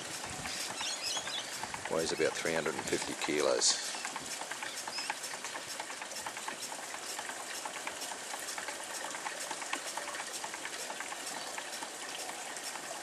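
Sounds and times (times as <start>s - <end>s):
engine steady hiss: 0.0s - 13.0s
light irregular clicks and ticks: 0.1s - 13.0s.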